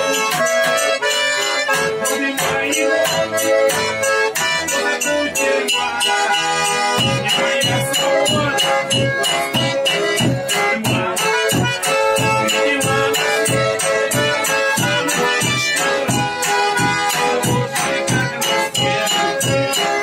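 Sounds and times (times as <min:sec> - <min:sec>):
button accordion folk tune: 0:00.0 - 0:20.0
drum beaten with sticks: 0:01.8 - 0:20.0.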